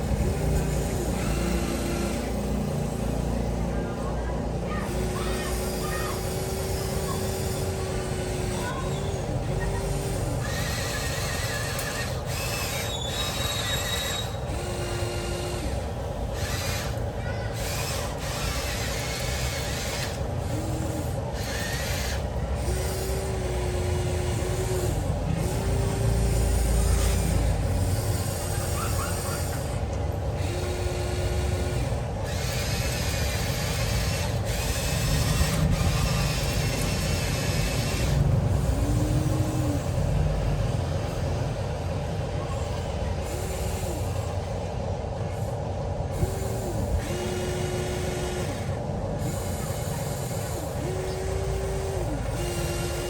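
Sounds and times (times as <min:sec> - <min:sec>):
steady mechanical hum: 0:00.0 - 0:53.0
toy excavator motors whining: 0:00.0 - 0:53.0.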